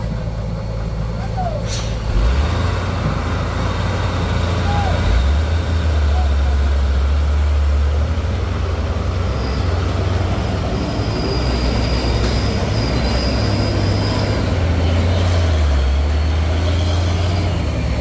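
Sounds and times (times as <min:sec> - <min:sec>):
diesel truck engine rumble: 0:00.0 - 0:18.0.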